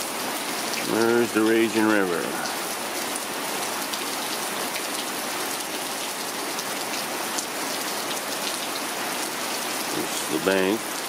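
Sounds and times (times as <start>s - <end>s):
steady rain: 0.0s - 11.0s
raindrops ticking close by: 0.2s - 11.0s.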